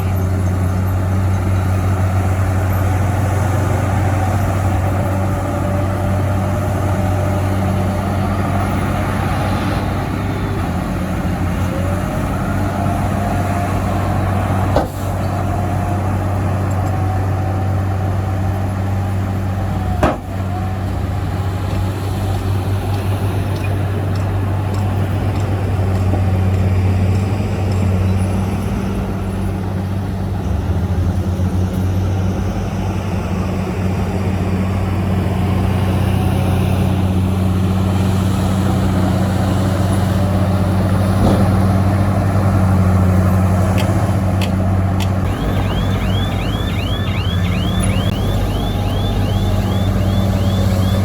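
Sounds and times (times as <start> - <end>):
heavy diesel machinery droning: 0.0 - 51.0.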